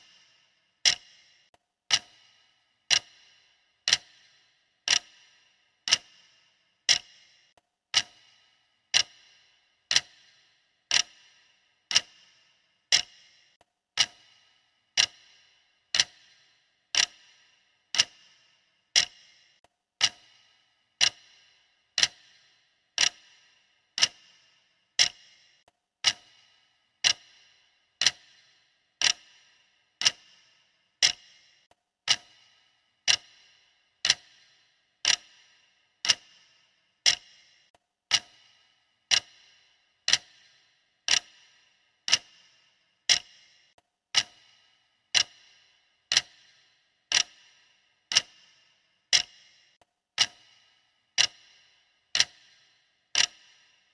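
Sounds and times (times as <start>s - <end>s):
timer ticking: 0.0s - 53.9s.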